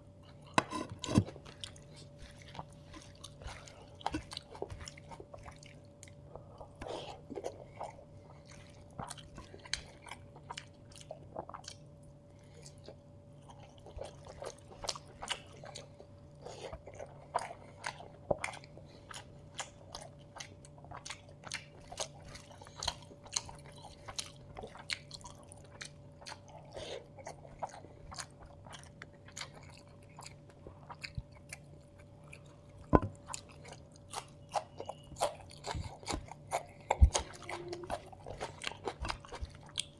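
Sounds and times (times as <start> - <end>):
wet chewing and crunching: 0.1 - 39.9.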